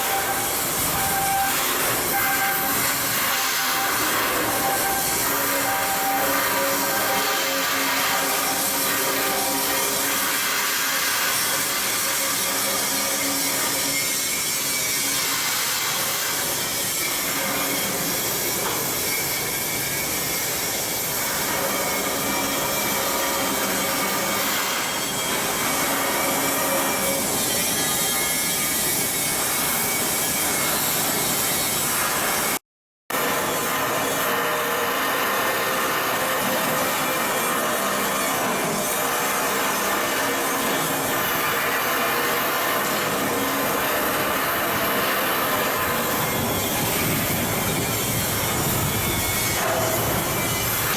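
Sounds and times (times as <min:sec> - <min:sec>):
power tools grinding steel: 0:00.0 - 0:32.6, 0:33.2 - 0:50.9.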